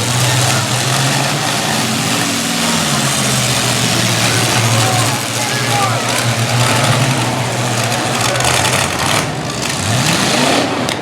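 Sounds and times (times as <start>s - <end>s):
engine revving up: 0.0s - 11.0s
truck engines running loudly: 0.0s - 11.0s.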